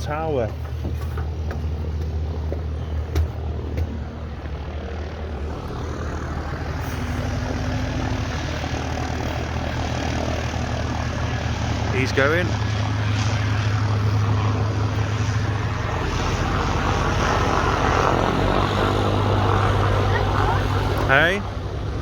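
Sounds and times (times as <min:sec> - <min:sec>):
light aircraft engine droning: 0:00.0 - 0:22.0.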